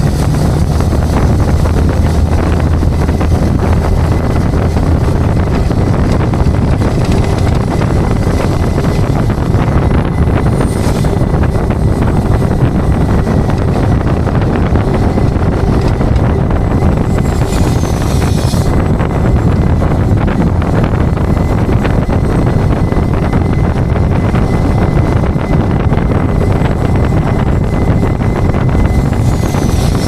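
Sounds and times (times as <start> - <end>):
tow truck rumbling on road: 0.0 - 30.0
wind buffeting microphone: 0.0 - 30.0.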